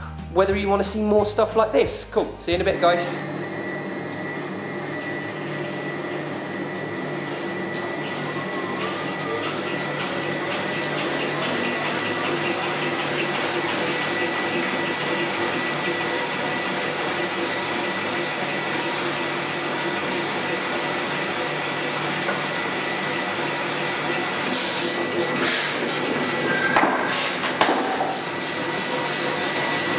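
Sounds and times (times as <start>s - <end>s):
machine whir with whine: 2.6s - 29.9s.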